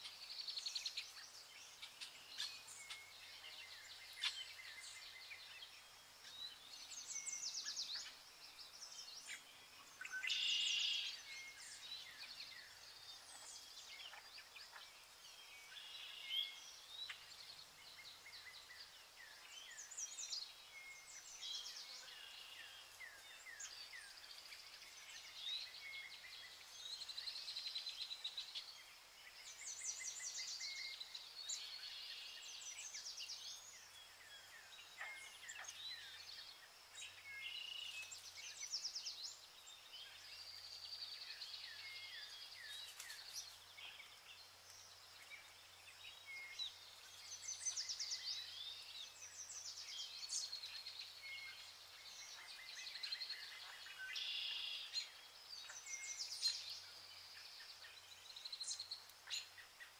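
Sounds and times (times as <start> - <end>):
birds singing and chirping: 0.0 - 59.9.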